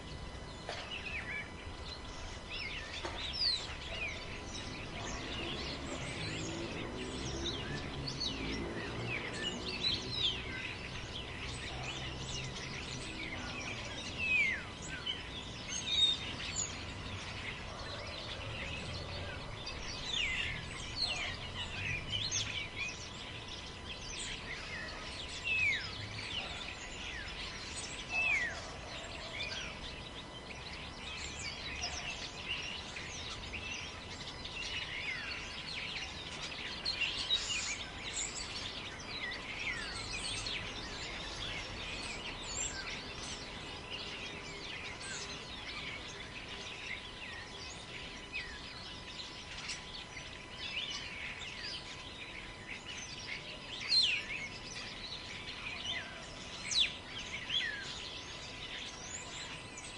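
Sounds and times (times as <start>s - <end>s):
birds chirping: 0.0s - 59.9s
wind in trees: 0.0s - 59.9s.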